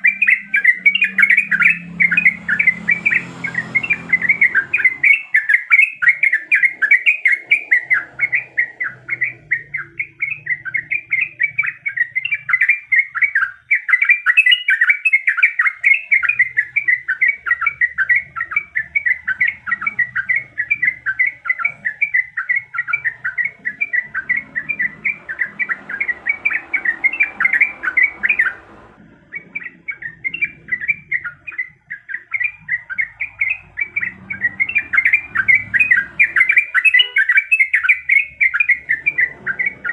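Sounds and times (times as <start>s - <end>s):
bulbul singing rapid chatter: 0.0s - 39.9s.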